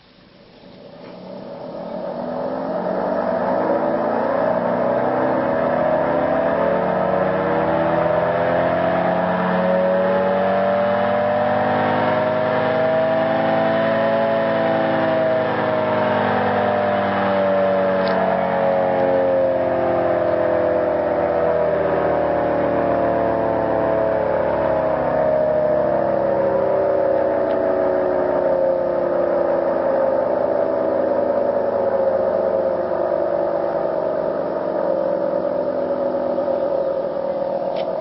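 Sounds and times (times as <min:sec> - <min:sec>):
mechanical siren wailing: 0:00.6 - 0:38.0.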